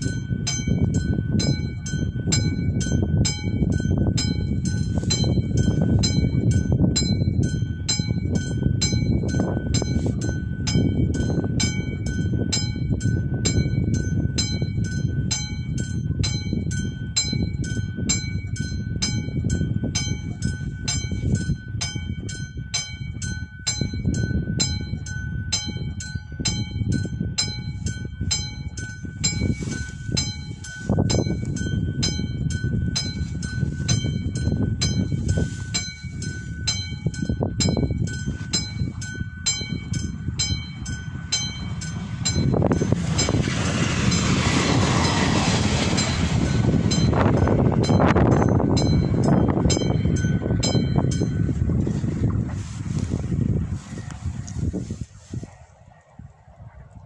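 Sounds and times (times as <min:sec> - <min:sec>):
train rumble and wheel noise: 0:00.0 - 0:55.8.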